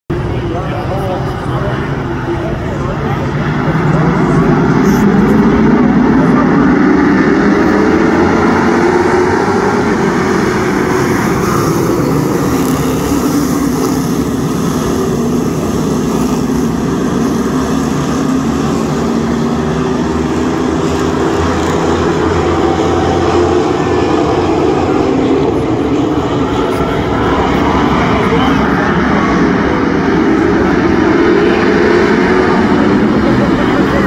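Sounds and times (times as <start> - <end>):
race car engines droning: 0.1 - 34.0.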